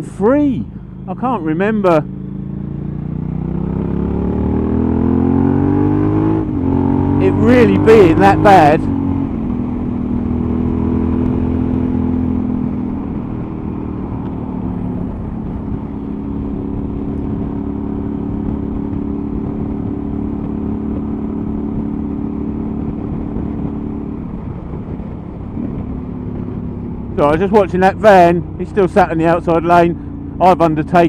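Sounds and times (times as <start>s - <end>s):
motorcycle engine cruising: 0.0s - 31.0s
road noise: 0.0s - 31.0s
wind noise: 3.4s - 28.3s.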